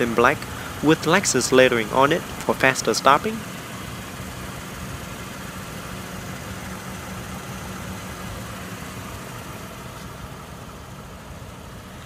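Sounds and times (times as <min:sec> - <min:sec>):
outdoor background hiss: 0:00.0 - 0:12.0
vehicle engine idling: 0:00.0 - 0:12.0.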